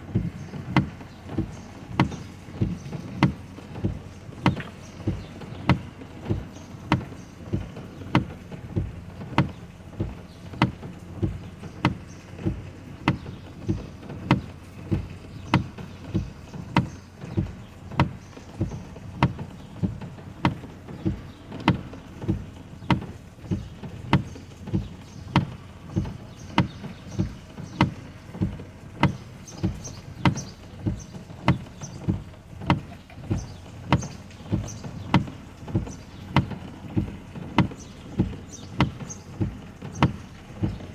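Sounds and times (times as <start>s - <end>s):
windshield wipers thumping: 0.0s - 40.9s.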